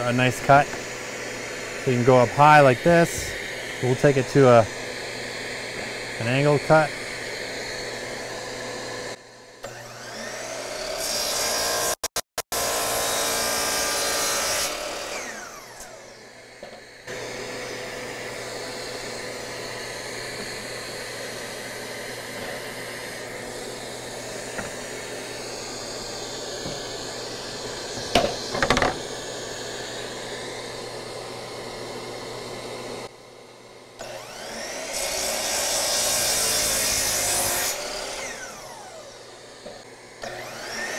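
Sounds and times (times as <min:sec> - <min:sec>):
shop vacuum running: 0:00.0 - 0:11.9, 0:12.5 - 0:40.9
miter saw cutting wood: 0:00.0 - 0:33.1, 0:34.0 - 0:40.9.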